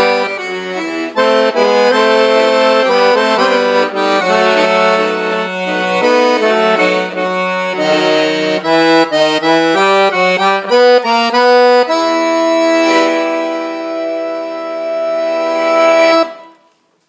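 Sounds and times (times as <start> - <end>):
accordion melody: 0.0 - 16.8.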